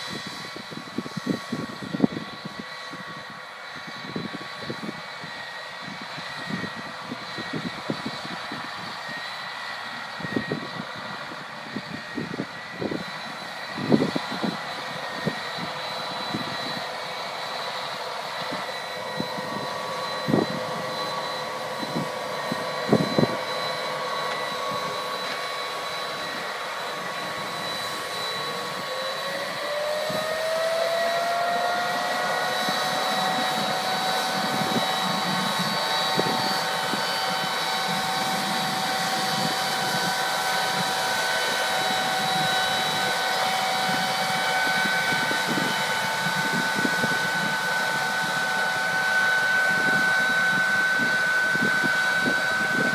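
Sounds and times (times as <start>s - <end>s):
machine whines: 0.0s - 52.9s
tractor engine drone: 0.0s - 52.9s.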